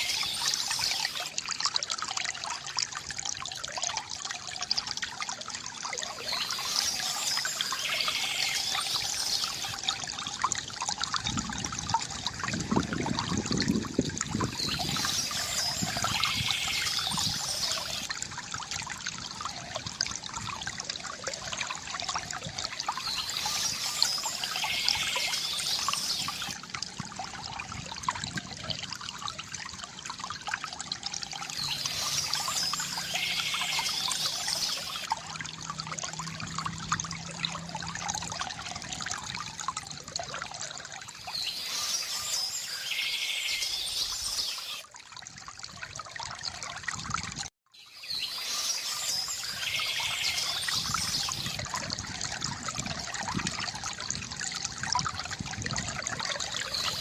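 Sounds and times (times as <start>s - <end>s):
water trickling from fountain: 0.0s - 57.0s.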